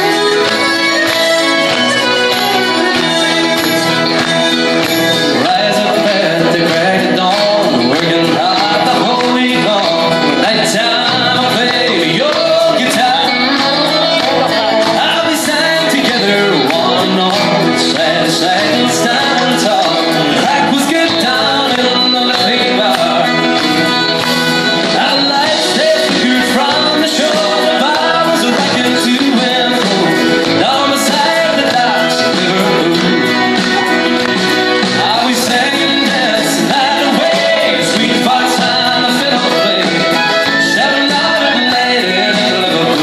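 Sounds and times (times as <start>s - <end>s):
live country band: 0.0s - 43.0s.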